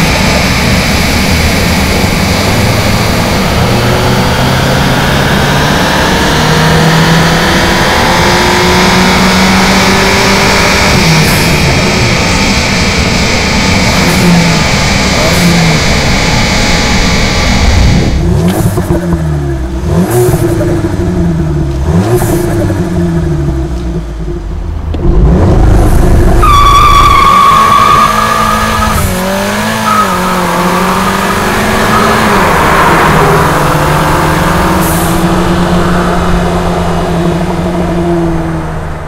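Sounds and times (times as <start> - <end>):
car accelerating with high whine: 0.0 - 39.0
car engine revving: 0.0 - 39.0.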